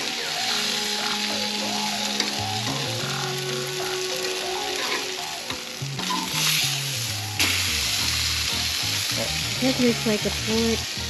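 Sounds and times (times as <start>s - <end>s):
food sizzling on grill: 0.0s - 11.0s.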